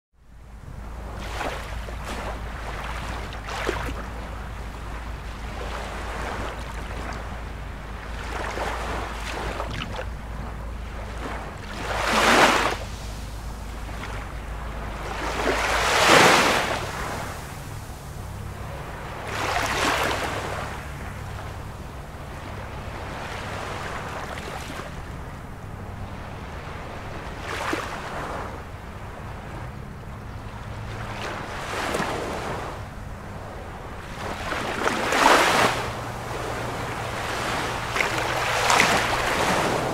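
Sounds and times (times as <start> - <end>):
low steady hum: 0.2 - 39.9
ocean waves washing: 0.3 - 39.9.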